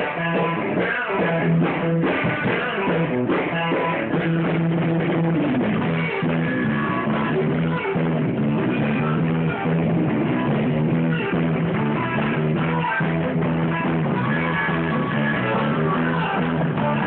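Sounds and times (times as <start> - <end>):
repeating bass line: 0.0 - 17.0
rock band playing: 0.0 - 17.0.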